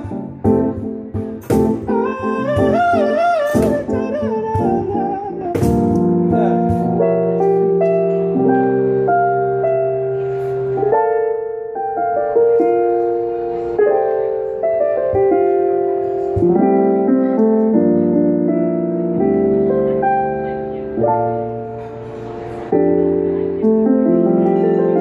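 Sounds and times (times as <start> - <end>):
keyboard playing sustained chords: 0.0 - 25.0.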